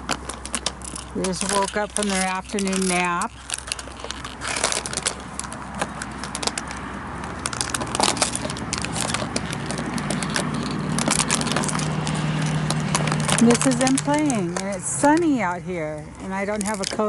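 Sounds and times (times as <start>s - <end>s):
plastic bottle crackling: 0.0s - 15.4s, 16.1s - 17.0s.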